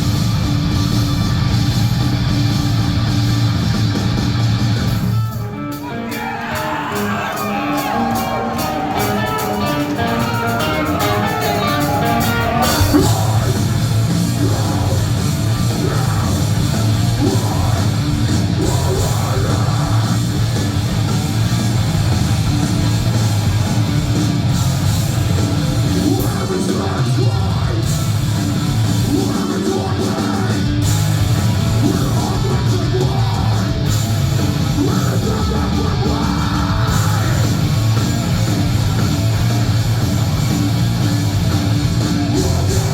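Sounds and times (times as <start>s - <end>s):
heavy rock band playing: 0.0s - 42.9s.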